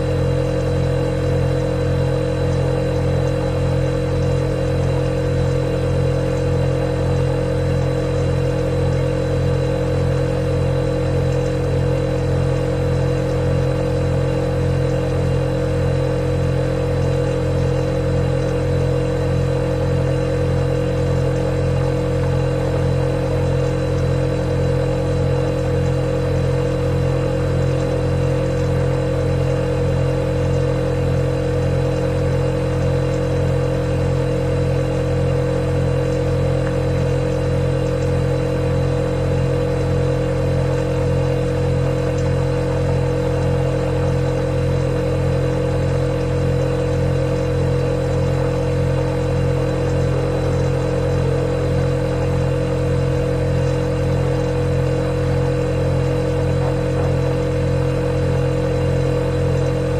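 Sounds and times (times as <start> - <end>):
refrigerator compressor hum: 0.0 - 59.9.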